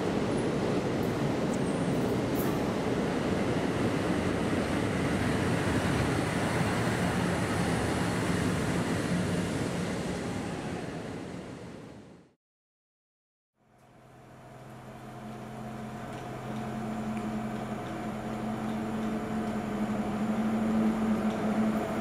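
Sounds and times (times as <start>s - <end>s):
locomotive passing on rails: 0.0s - 12.2s, 13.6s - 22.0s.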